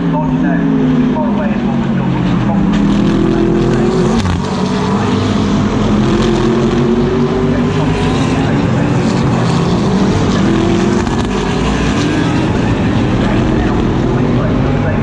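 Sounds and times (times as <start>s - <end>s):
race car engine revving high: 0.0s - 15.0s.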